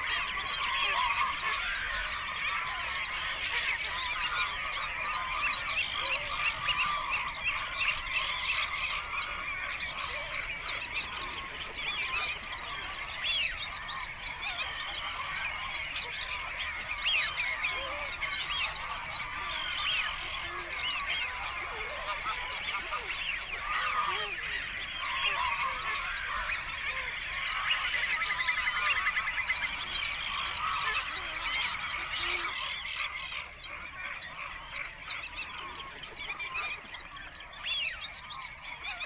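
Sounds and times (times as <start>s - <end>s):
flock of birds calling: 0.0s - 39.0s.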